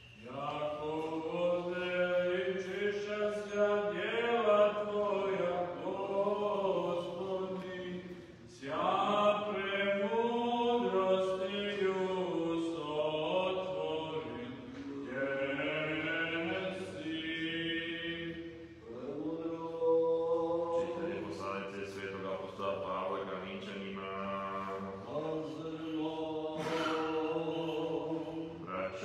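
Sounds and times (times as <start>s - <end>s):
man chanting: 0.2s - 29.0s.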